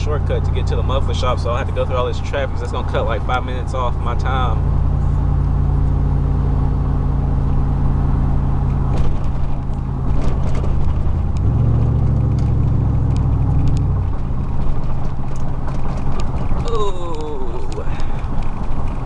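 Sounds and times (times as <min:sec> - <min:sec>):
truck exhaust droning: 0:00.0 - 0:19.0.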